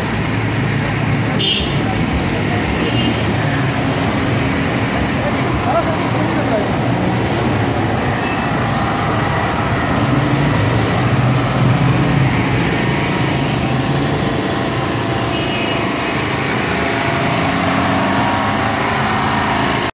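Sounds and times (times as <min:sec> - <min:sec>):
auto-rickshaw engines: 0:00.0 - 0:19.9
car engines: 0:00.0 - 0:19.9
motorcycle engines: 0:00.0 - 0:19.9.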